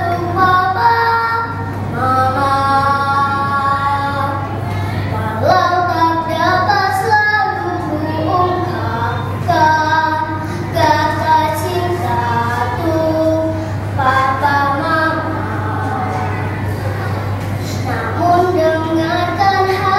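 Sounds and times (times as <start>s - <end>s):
young girl singing: 0.0s - 16.8s, 17.7s - 19.9s
steady low hum: 0.0s - 19.9s.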